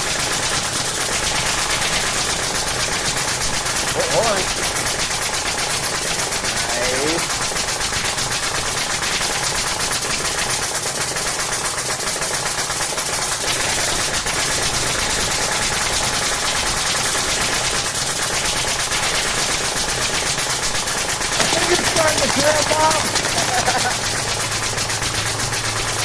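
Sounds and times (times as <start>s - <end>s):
nail gun firing: 0.0s - 26.0s.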